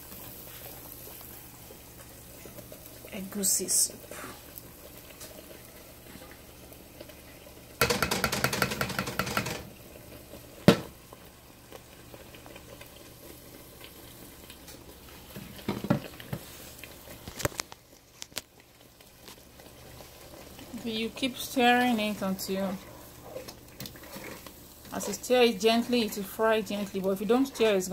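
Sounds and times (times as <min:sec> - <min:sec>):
paste sizzling in oil: 0:00.0 - 0:07.9, 0:08.8 - 0:27.9.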